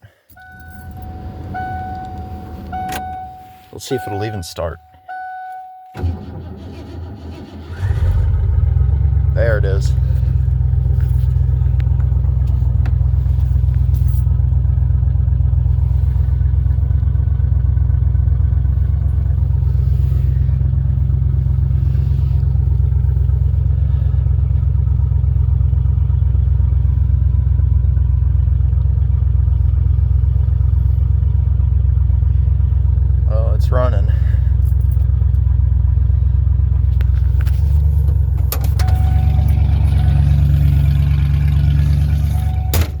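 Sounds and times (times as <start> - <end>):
truck engine idling: 0.3 - 43.0.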